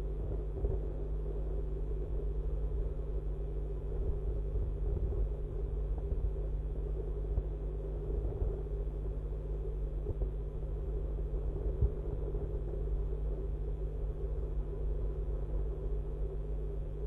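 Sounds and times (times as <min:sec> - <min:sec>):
constant hum: 0:00.0 - 0:17.0
steady low rumble: 0:00.0 - 0:17.0.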